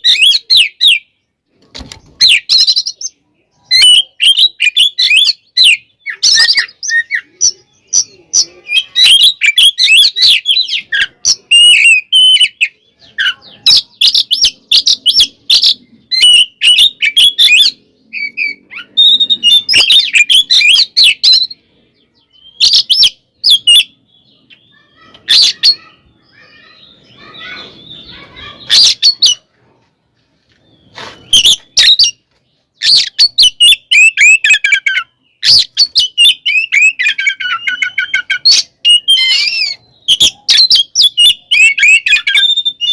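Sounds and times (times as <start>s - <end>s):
bird singing chattering phrases: 0.0s - 42.9s.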